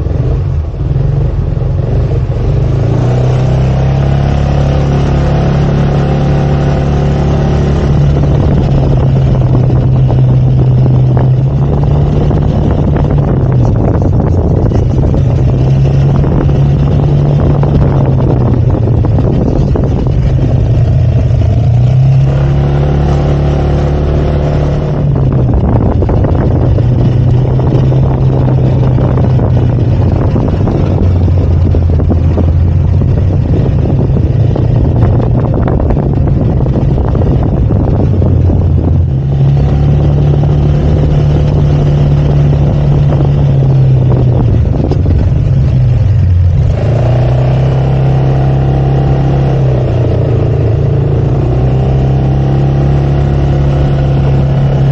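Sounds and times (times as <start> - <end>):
wind on microphone: 0.0 - 54.9
scooter engine running: 3.7 - 54.9.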